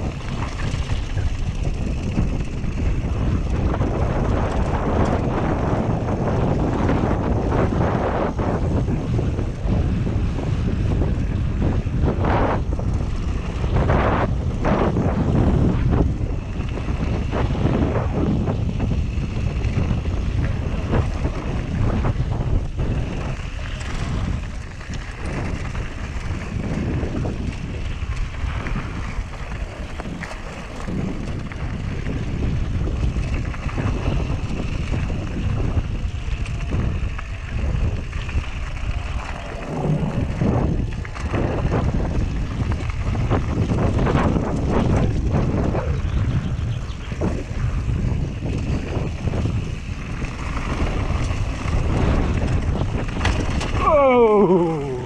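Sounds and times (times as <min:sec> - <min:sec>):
bike knocking and rattling: 0:00.0 - 0:54.4
tyres rumbling on gravel: 0:00.0 - 0:55.0
wind buffeting microphone: 0:00.0 - 0:55.0.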